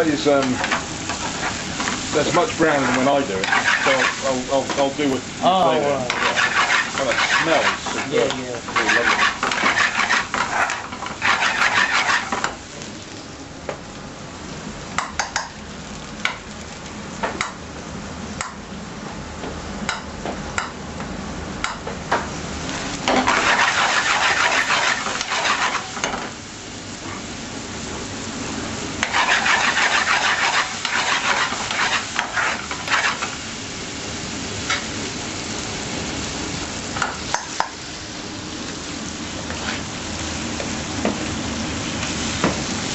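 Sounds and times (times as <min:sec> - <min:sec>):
food sizzling in pan: 0:00.0 - 0:17.6, 0:22.2 - 0:42.9.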